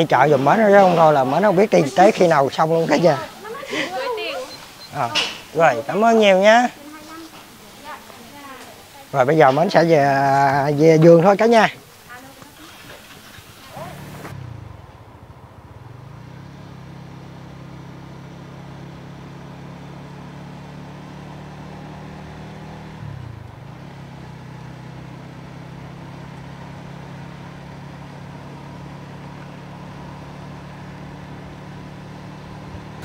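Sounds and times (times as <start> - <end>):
vehicle engine cruising: 0.0 - 33.0.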